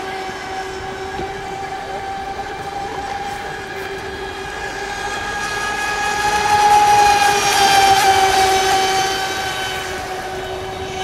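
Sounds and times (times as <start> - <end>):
model boat motor whining: 0.0 - 11.0.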